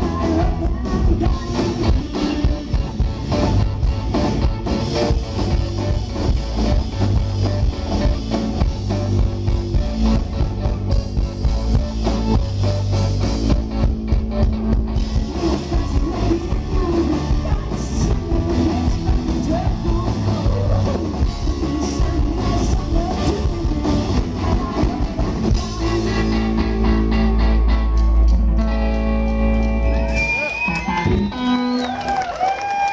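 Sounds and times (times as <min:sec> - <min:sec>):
person singing: 0:00.0 - 0:28.7
drums: 0:00.0 - 0:32.9
electric guitar: 0:00.0 - 0:32.9.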